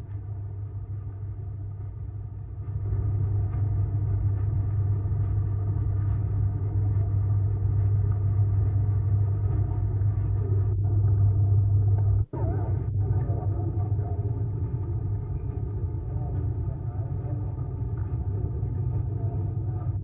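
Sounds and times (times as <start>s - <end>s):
low rumbling hum: 0.0s - 20.0s.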